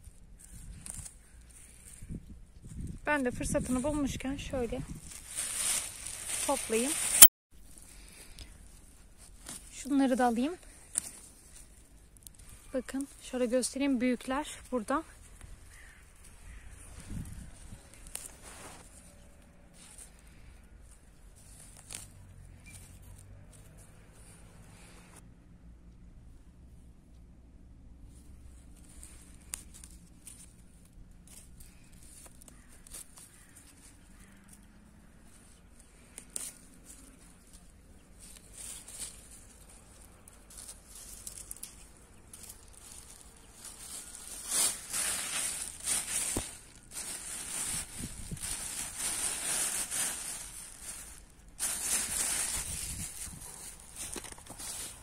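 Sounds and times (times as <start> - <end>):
rustling dry vegetation: 0.0 - 25.2, 27.9 - 55.0.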